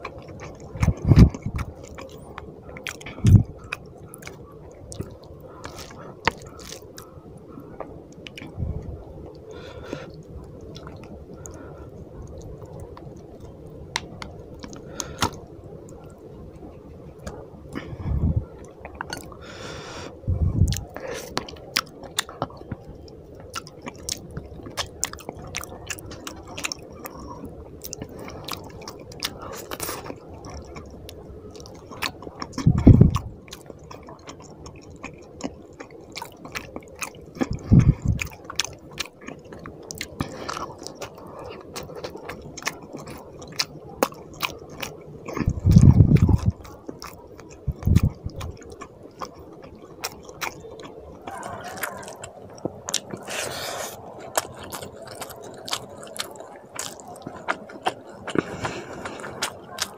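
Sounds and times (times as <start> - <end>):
chewing and lip-smacking: 0.0 - 59.9.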